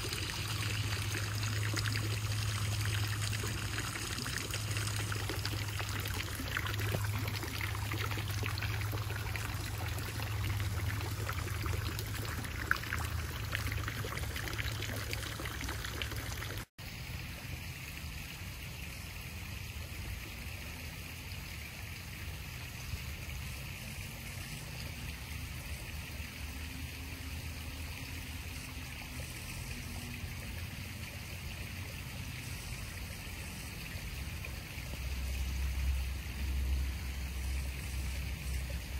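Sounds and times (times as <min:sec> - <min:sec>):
steady outdoor hiss: 0:00.0 - 0:38.9
water jet splashing into pond: 0:00.0 - 0:38.9.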